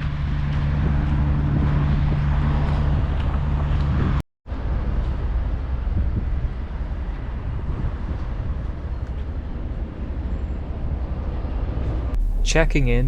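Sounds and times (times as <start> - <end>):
low urban rumble: 0.0 - 13.0.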